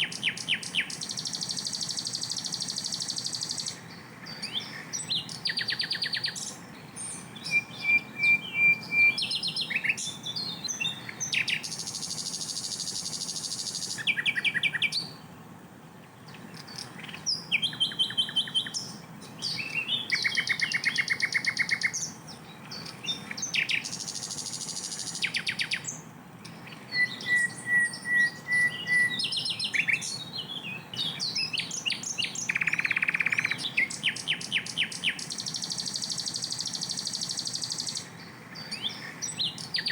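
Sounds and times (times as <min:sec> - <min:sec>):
bird singing: 0:00.0 - 0:15.4, 0:16.0 - 0:39.9.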